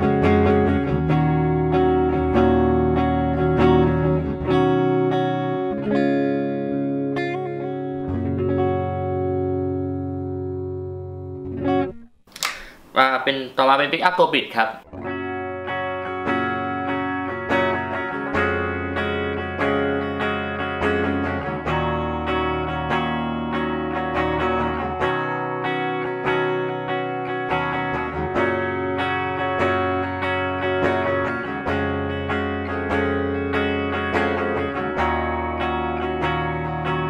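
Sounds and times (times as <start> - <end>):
clean electric guitar: 0.0 - 13.0, 14.4 - 37.0.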